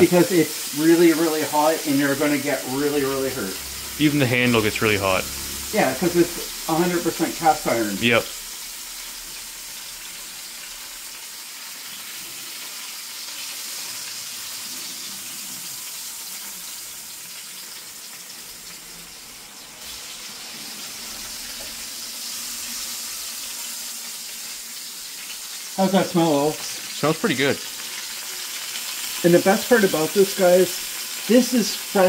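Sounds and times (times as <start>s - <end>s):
fish sizzling in hot oil: 0.0s - 4.1s, 5.2s - 32.0s.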